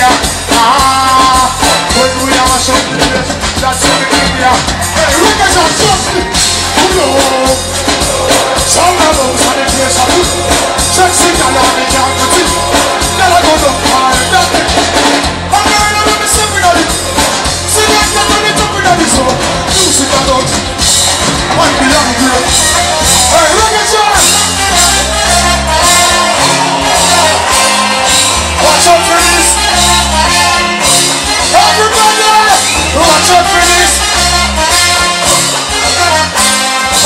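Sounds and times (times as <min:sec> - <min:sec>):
man singing: 0:00.0 - 0:37.0
reggae band playing: 0:00.0 - 0:37.0.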